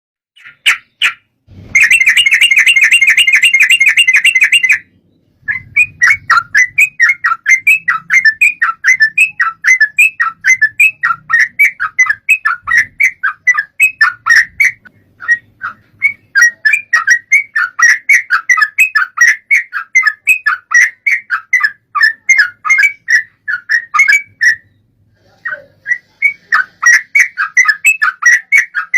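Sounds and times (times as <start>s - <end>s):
bird singing chattering notes: 1.8s - 28.9s.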